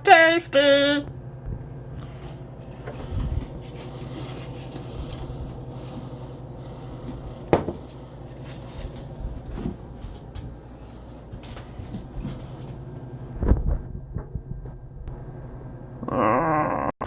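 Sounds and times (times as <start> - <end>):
microwave oven humming: 0.0 - 16.9.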